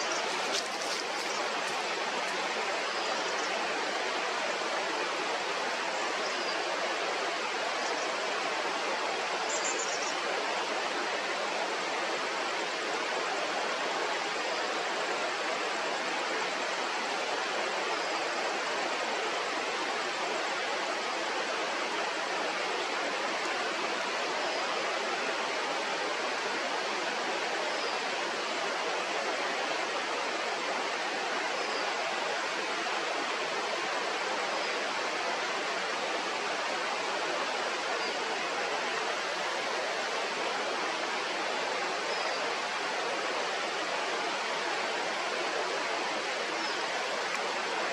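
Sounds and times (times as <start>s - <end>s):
flowing river water: 0.0s - 47.9s.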